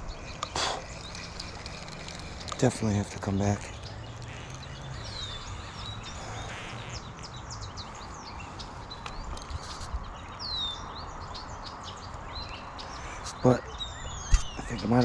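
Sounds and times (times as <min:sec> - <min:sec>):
songbirds chirping and whistling: 0:00.0 - 0:15.0.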